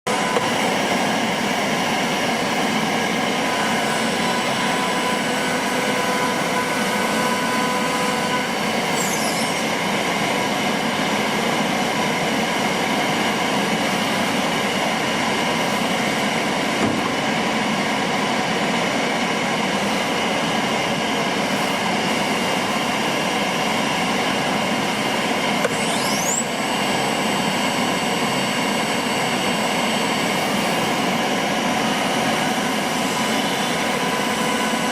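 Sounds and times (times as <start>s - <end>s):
cnc router running: 0.0s - 34.9s
spindle high whine: 0.1s - 34.9s.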